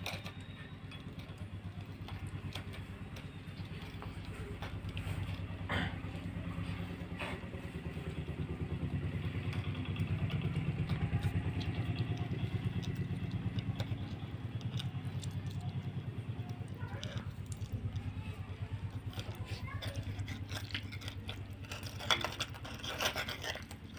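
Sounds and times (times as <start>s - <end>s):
engine pulsing: 0.0s - 23.9s.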